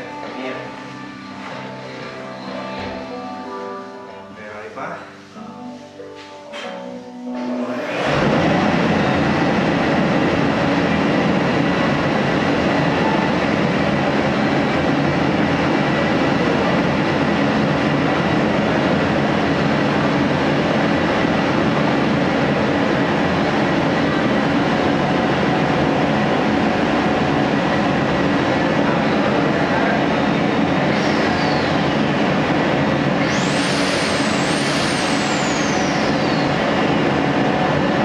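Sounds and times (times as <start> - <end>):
woodshop machinery running: 7.4 - 38.0.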